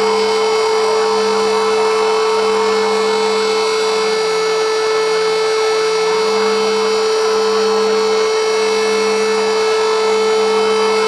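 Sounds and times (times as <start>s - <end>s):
buzzing horn tone: 0.0s - 11.0s
sirens wailing: 0.0s - 11.0s.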